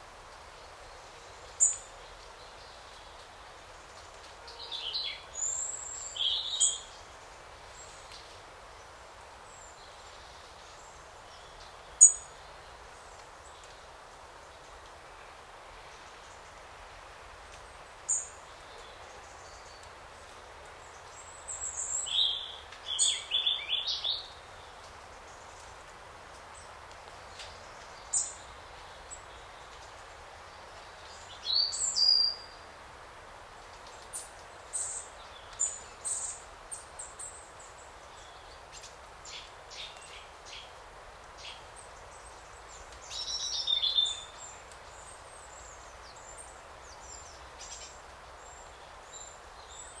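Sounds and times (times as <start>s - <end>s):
soft forest ambience hiss: 0.0s - 50.0s.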